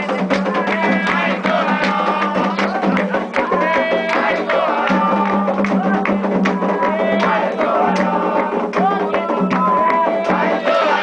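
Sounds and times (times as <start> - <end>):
hand drums and percussion: 0.0 - 11.0
voices singing a chant: 0.0 - 11.0.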